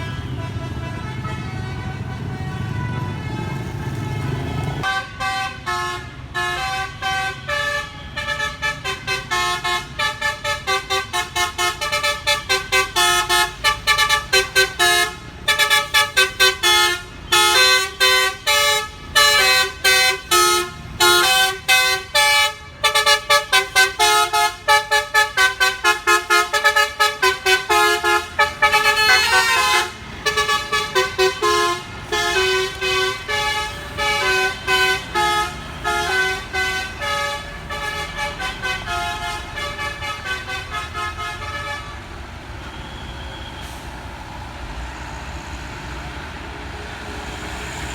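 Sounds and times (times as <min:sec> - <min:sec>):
multi-trumpet air horn melody: 0:00.0 - 0:42.1.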